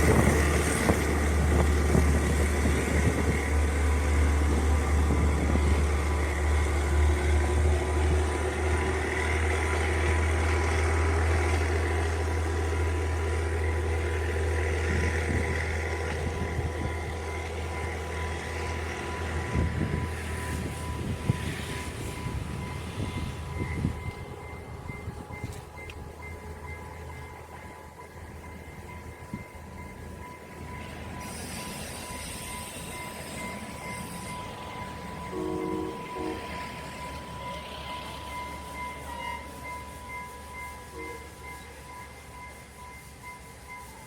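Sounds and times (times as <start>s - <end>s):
diesel train engine rumble: 0.0s - 44.0s.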